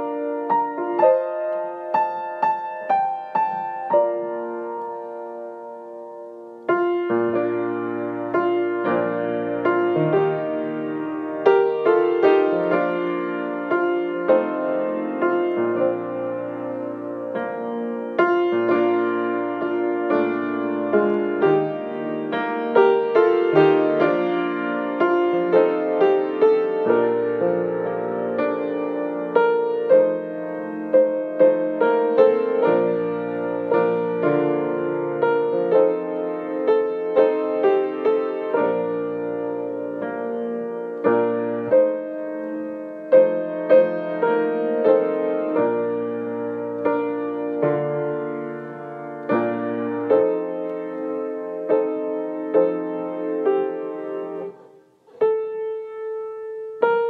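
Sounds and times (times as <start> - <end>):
slow solo piano: 0.0 - 57.0.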